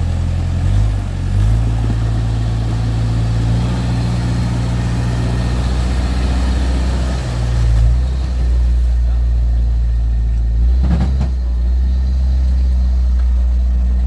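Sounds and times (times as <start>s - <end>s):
vehicle engine running low: 0.0s - 14.0s.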